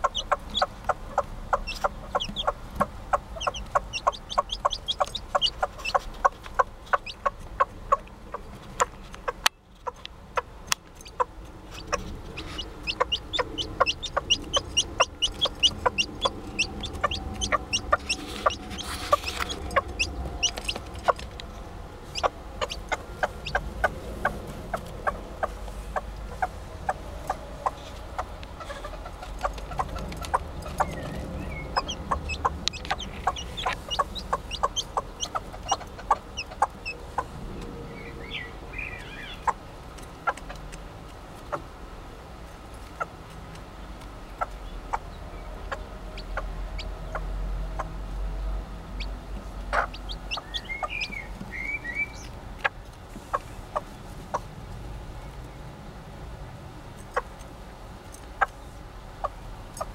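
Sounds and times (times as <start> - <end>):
hen clucking: 0.0 - 37.3, 38.8 - 41.7, 44.2 - 48.1, 48.9 - 54.5, 59.2 - 59.9
chicks cheeping: 0.0 - 40.7, 44.2 - 48.0, 48.8 - 54.5.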